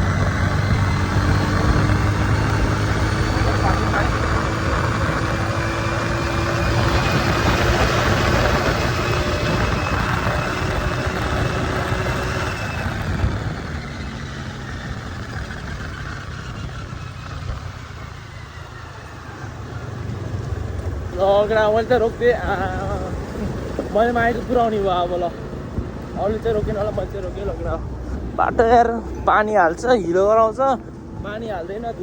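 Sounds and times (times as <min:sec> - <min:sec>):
road and wind noise: 0:00.0 - 0:32.0
vehicle engine running: 0:00.0 - 0:32.0.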